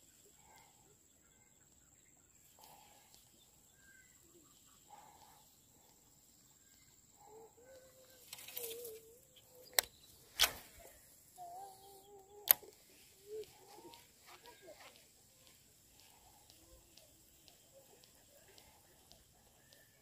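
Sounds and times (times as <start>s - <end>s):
faint bird calls: 0.0s - 20.0s.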